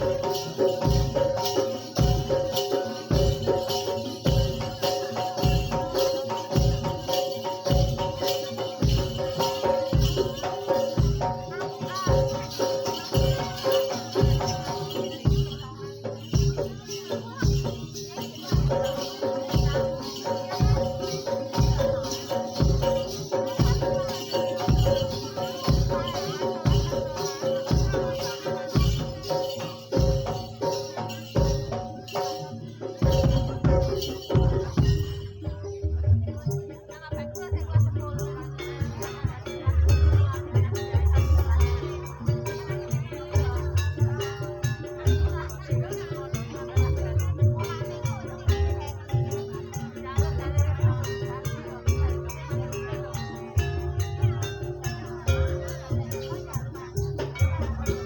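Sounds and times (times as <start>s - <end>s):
ringing metallophone tones: 0.0s - 37.6s, 38.4s - 58.0s
jingling percussion: 0.0s - 58.0s.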